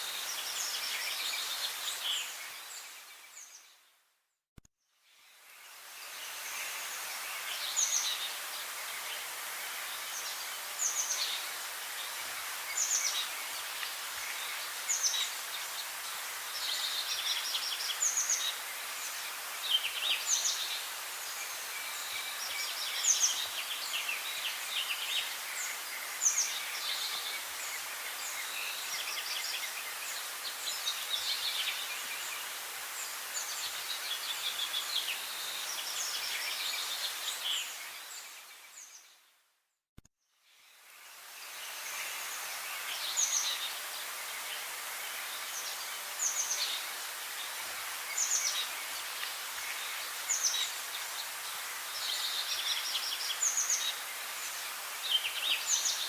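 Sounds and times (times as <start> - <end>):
steady background hiss: 0.0 - 3.7, 5.1 - 39.0, 40.5 - 56.0
songbirds singing: 5.0 - 39.3, 40.5 - 56.0.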